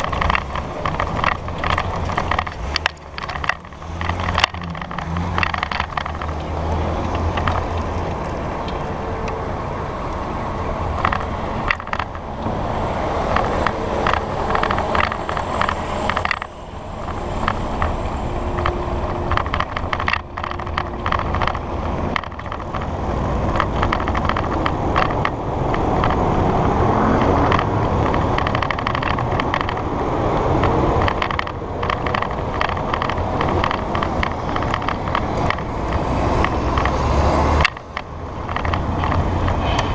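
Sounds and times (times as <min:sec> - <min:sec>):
bike clicks and rattles: 0:00.0 - 0:09.4, 0:10.9 - 0:39.9
street traffic: 0:00.0 - 0:39.9
wind and tyre noise: 0:00.0 - 0:39.9.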